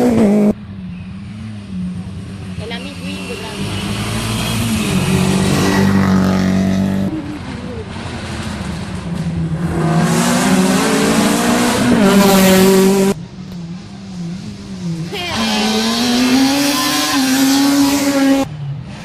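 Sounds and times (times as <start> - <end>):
car engine accelerating hard: 0.0 - 13.2, 13.8 - 19.0
rally car passing at full throttle: 0.0 - 19.0.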